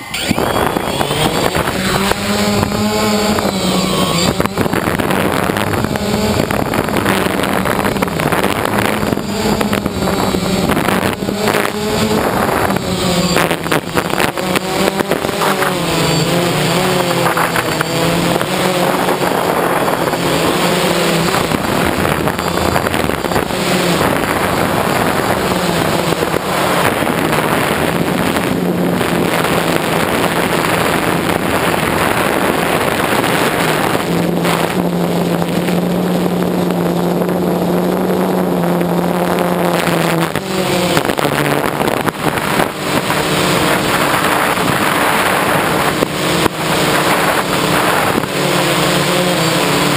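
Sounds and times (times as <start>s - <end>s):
drone propellers droning: 0.0s - 49.9s.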